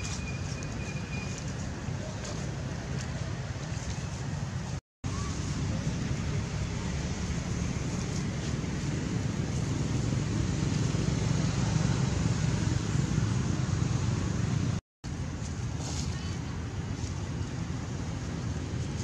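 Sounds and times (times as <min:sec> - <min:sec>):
low rumbling background noise: 0:00.7 - 0:19.0.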